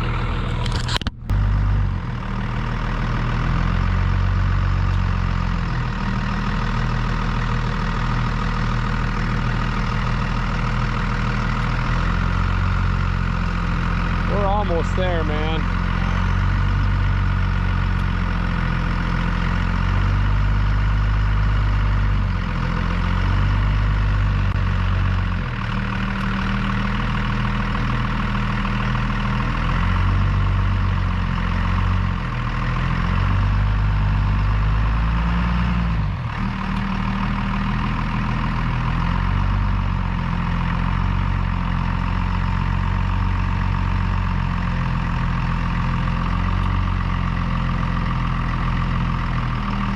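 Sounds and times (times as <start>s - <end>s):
truck engine running under load: 0.0s - 49.9s.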